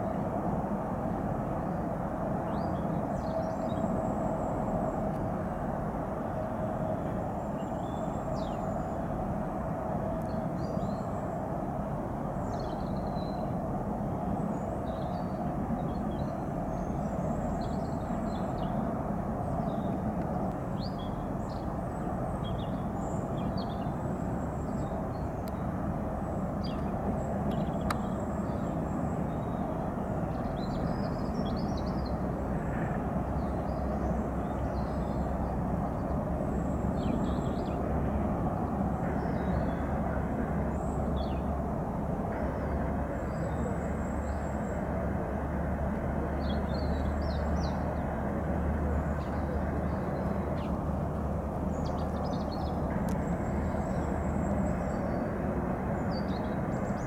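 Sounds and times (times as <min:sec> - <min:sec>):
distant jet engine rumble: 0:00.0 - 0:57.0.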